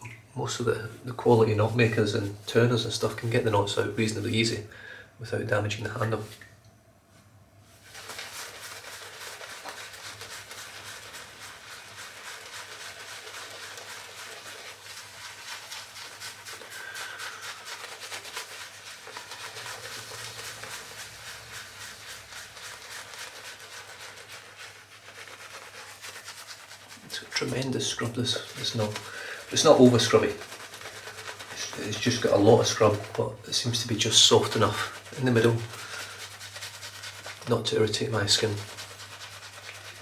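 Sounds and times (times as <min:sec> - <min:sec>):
shaving brush swishing lather: 0:00.5 - 0:04.7, 0:07.6 - 0:40.0.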